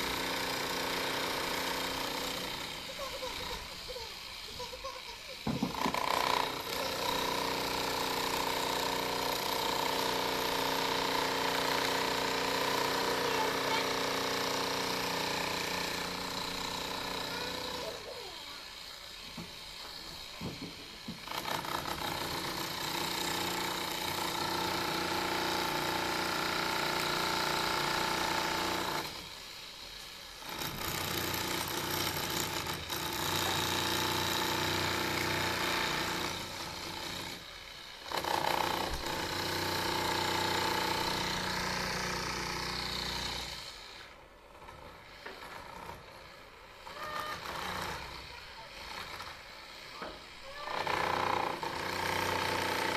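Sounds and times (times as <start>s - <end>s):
demolition hammer chiselling concrete: 0.0s - 52.9s.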